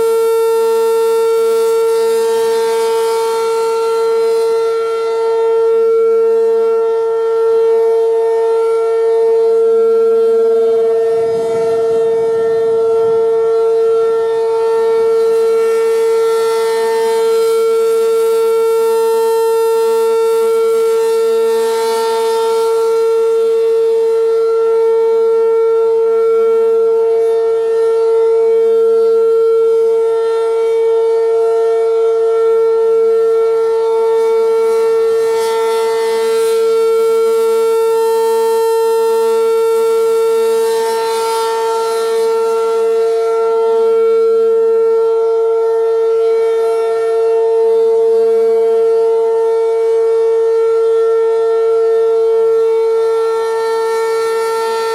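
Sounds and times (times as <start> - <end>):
rotating warning siren steady tone: 0.0 - 54.9.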